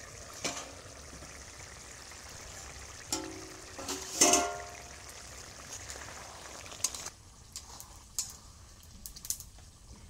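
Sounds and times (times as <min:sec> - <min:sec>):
curry sizzling in a pan: 0:00.0 - 0:09.9.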